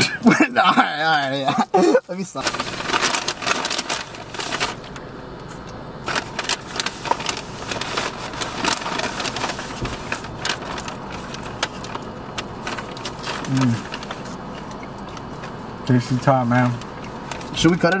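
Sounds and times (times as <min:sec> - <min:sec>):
rustling and crackling: 0:02.2 - 0:18.0.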